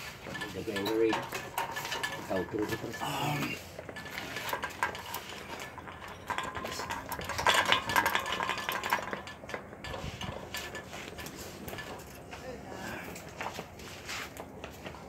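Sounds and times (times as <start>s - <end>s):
clattering and clinking knocks: 0.0s - 12.3s.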